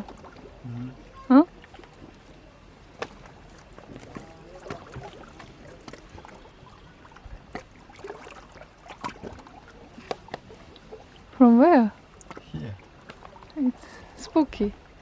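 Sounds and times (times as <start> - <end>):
waves sloshing in rock holes: 0.0 - 15.0.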